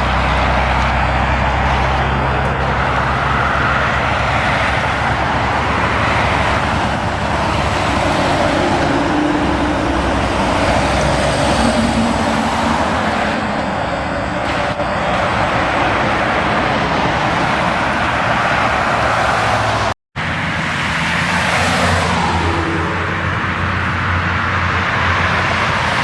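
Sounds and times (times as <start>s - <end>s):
deep engine hum: 0.0s - 26.0s
trucks passing on road: 0.0s - 26.0s.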